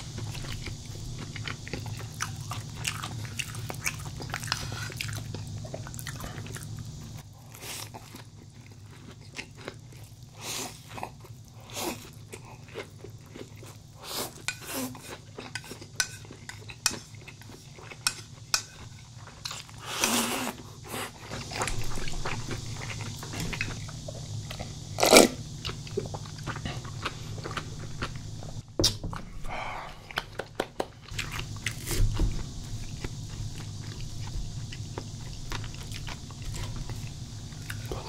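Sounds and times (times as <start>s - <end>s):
person crunching and chewing: 0.0s - 29.0s, 29.6s - 38.0s.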